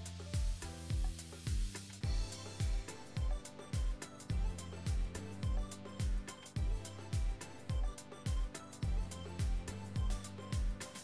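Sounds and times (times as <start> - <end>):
music with kick-drum beat: 0.0 - 11.0.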